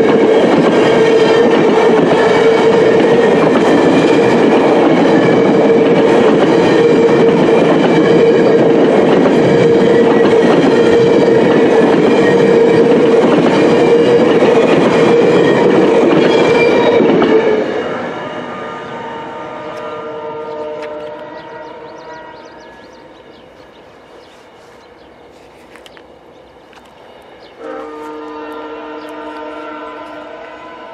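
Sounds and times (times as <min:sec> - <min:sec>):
train wheels rolling on rails: 0:00.0 - 0:30.9.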